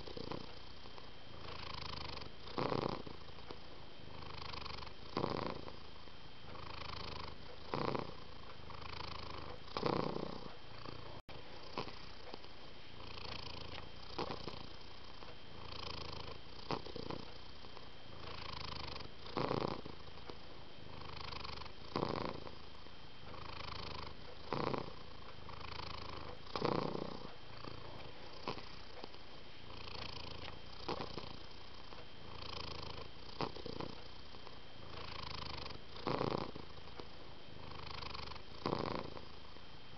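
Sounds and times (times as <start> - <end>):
cat purring: 0.0 - 39.6.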